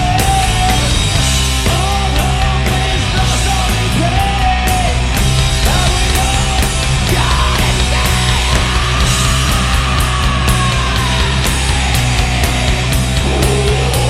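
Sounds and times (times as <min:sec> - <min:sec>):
heavy metal band playing live: 0:00.0 - 0:14.0.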